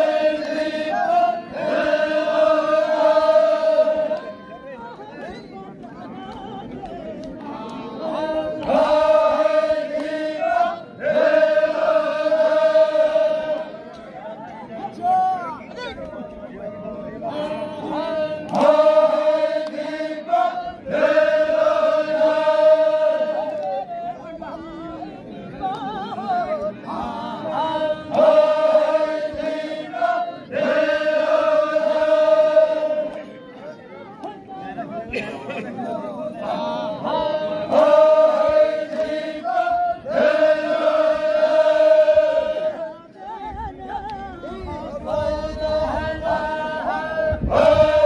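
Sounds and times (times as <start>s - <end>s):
voices singing held notes: 0.0s - 48.0s.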